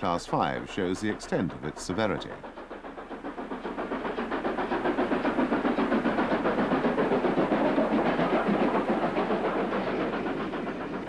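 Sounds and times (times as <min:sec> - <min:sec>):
steam locomotive exhaust beating: 0:00.0 - 0:11.0.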